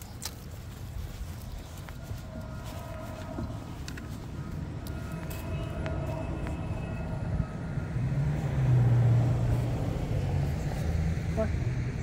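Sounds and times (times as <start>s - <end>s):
vehicle engine rumble passing: 0.0s - 12.0s.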